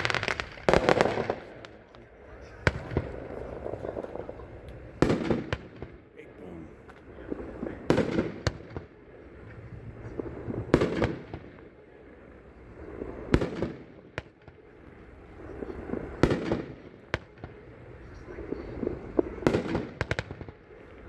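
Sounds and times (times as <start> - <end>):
fireworks bursting: 0.0 - 6.1, 6.8 - 21.0.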